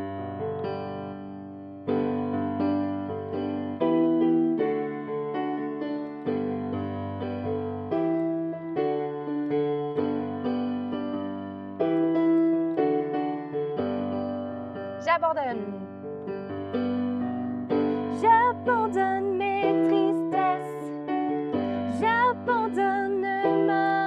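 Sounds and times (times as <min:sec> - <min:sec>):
piano chords: 0:00.0 - 0:24.0.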